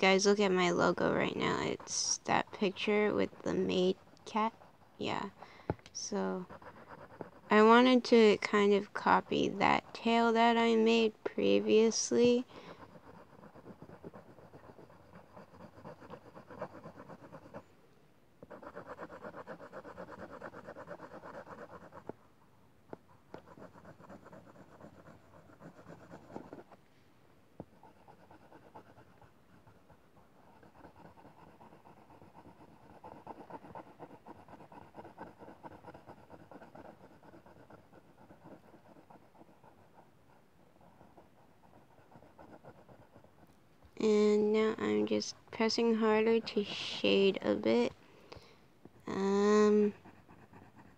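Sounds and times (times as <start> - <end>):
pencil scratching on paper: 0.0 - 5.4, 6.0 - 17.7, 18.4 - 22.2, 22.9 - 26.8, 27.6 - 48.0, 48.9 - 50.9.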